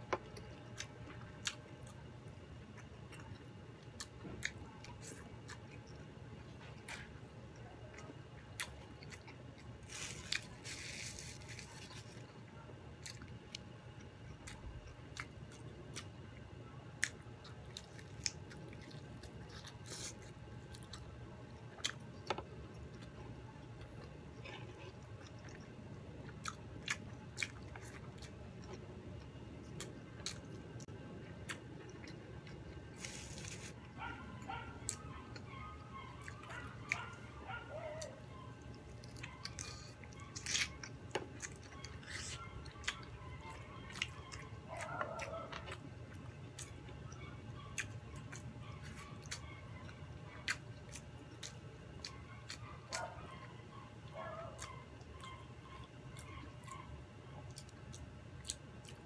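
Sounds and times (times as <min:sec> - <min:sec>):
chewing with wet mouth clicks: 0:00.1 - 0:59.0.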